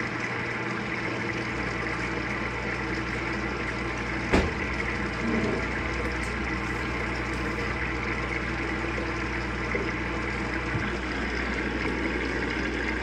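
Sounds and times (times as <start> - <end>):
water pouring into washing machine: 0.0 - 13.0.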